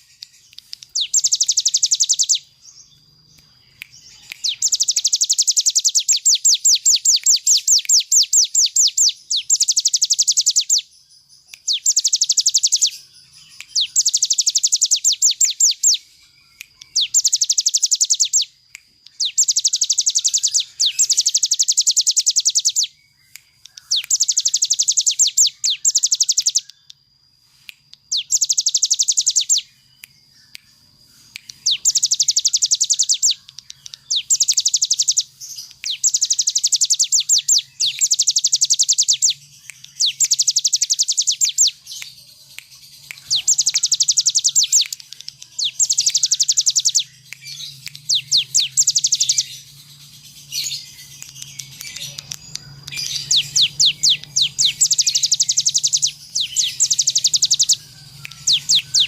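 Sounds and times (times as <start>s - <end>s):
bird singing fast high trills: 0.0s - 2.9s, 3.6s - 10.9s, 11.7s - 16.2s, 16.9s - 18.6s, 19.2s - 26.7s, 28.1s - 29.7s, 31.2s - 42.0s, 42.9s - 59.0s.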